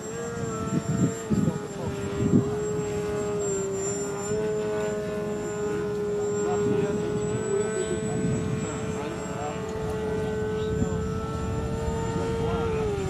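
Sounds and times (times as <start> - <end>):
model plane motor drone: 0.0 - 13.0
wind noise on microphone: 0.0 - 13.0.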